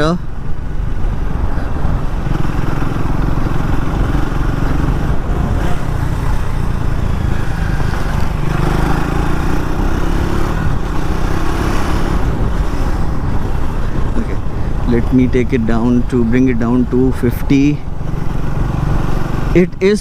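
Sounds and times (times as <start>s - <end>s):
road noise: 0.0s - 20.0s
wind noise: 0.2s - 17.2s.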